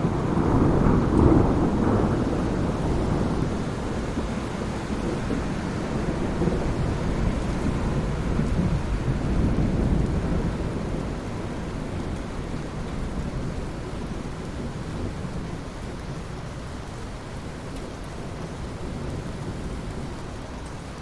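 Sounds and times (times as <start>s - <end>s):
rain falling on ocean water: 0.0s - 21.0s.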